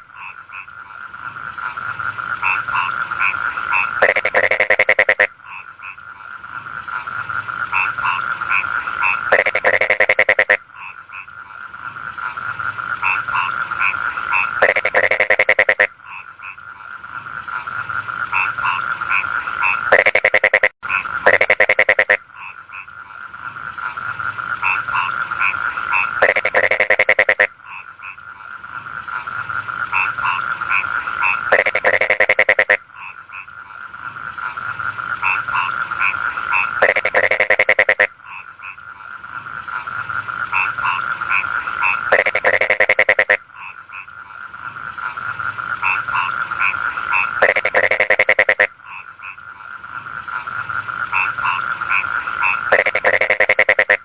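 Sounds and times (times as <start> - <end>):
frogs croaking in chorus: 0.0 - 54.0
loud pulsed frog call: 0.0 - 54.0.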